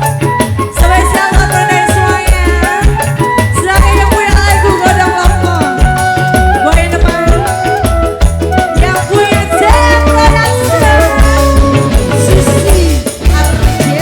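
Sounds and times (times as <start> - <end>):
rattling percussion: 0.0 - 14.0
sliding melody line: 0.0 - 14.0.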